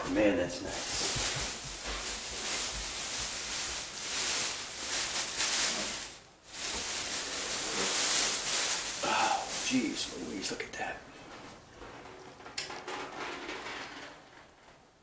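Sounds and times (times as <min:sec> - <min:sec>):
plastic packaging rustling: 0:00.7 - 0:14.7.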